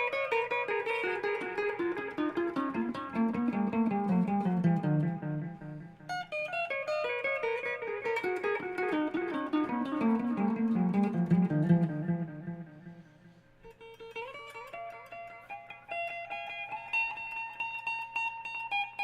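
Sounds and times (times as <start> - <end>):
guitar notes with reverb: 0.0 - 19.0.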